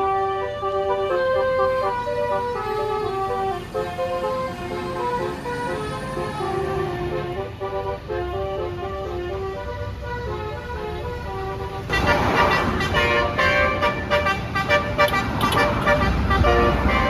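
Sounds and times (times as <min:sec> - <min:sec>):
multi-tone air horn playing a tune: 0:00.0 - 0:17.0.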